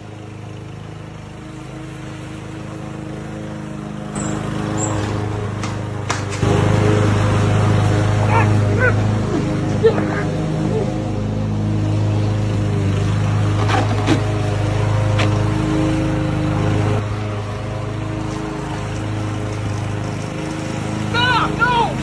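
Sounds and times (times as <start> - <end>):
small motor droning: 0.0 - 22.0.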